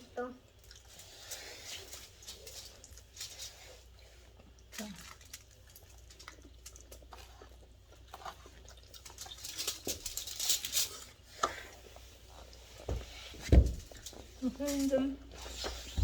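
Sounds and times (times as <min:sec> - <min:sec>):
crinkly rustle: 0:00.6 - 0:16.0.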